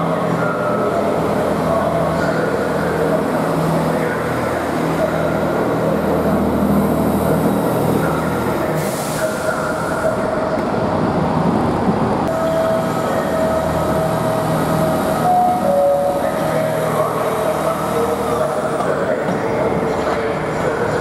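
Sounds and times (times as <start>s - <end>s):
train engine drone: 0.0s - 21.0s.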